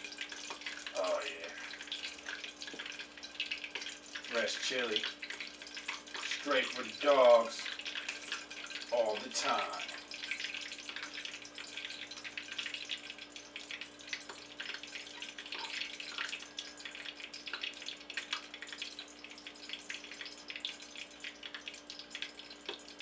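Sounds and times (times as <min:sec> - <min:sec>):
faint steady hum: 0:00.0 - 0:23.0
small wet clicks: 0:00.1 - 0:23.0.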